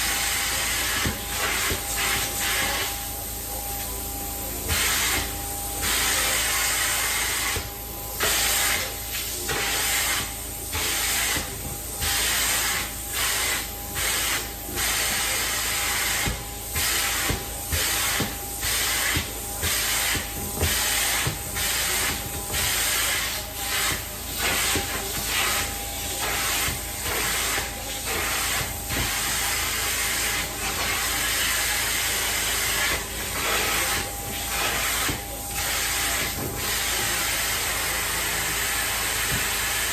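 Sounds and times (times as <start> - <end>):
cleaning wand hissing: 4.6 - 39.9.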